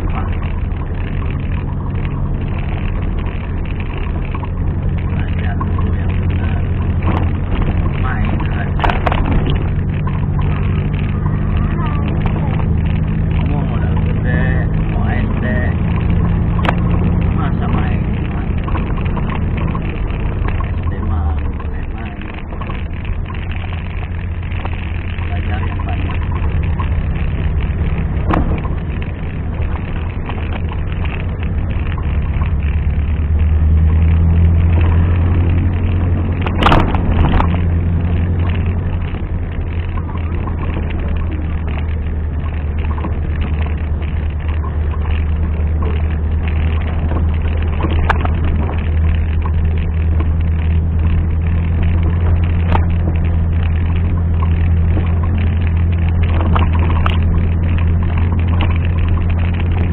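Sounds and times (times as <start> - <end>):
engine humming deeply: 0.0 - 59.9.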